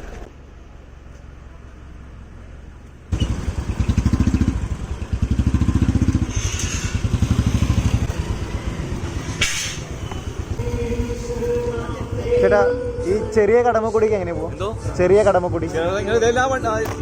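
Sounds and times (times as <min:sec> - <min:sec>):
motorcycle engine running: 0:01.4 - 0:09.2, 0:09.9 - 0:17.0.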